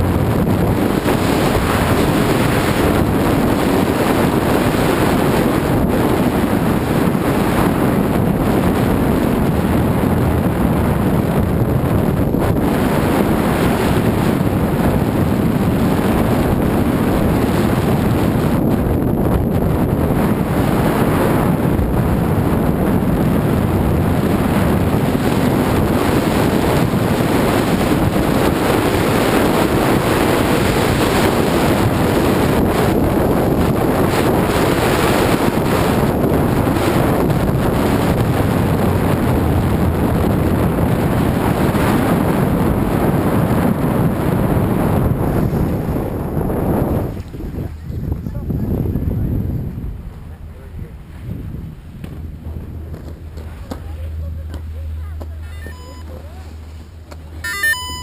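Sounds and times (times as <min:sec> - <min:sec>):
wind buffeting camera microphone: 0:00.0 - 0:58.0.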